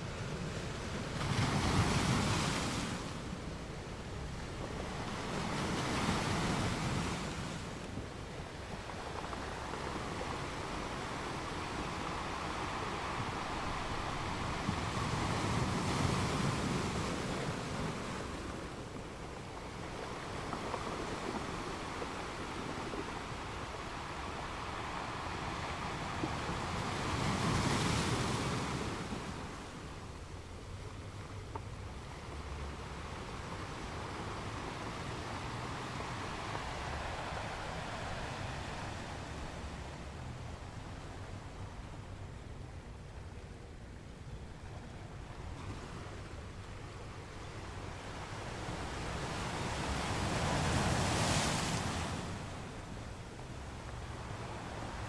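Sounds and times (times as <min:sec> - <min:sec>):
ocean waves on a beach: 0:00.0 - 0:55.0.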